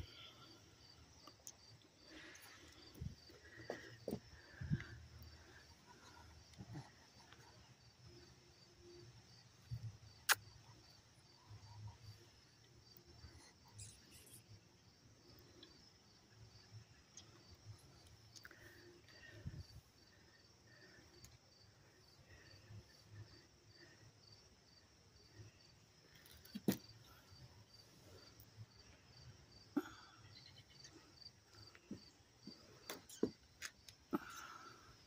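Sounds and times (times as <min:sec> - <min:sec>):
insect chirping: 0:00.0 - 0:35.0.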